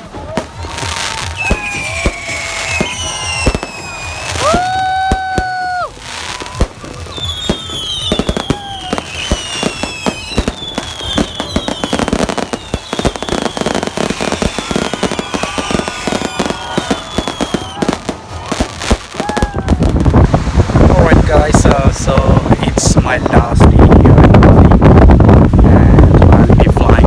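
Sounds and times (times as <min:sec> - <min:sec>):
fireworks whistling down in pitch: 0:00.0 - 0:22.4
fireworks bangs and crackles: 0:00.0 - 0:27.0.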